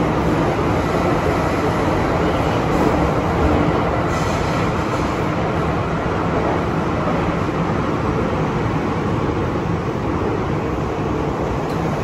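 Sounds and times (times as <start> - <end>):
metro car wheels rumbling: 0.0 - 12.0.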